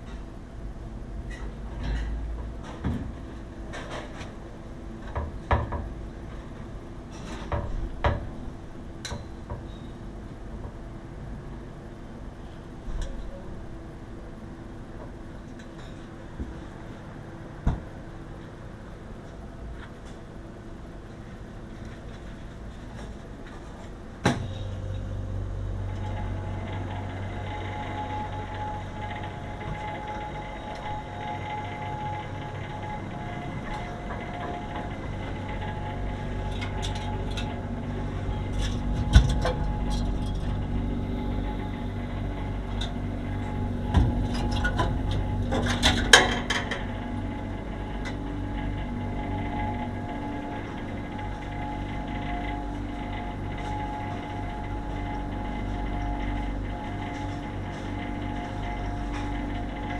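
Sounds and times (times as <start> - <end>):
refrigeration compressor humming: 0.0 - 59.9.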